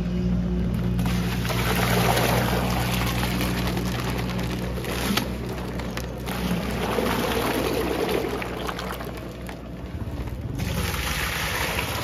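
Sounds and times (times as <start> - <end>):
liquid pouring into metal bucket: 1.0 - 12.0.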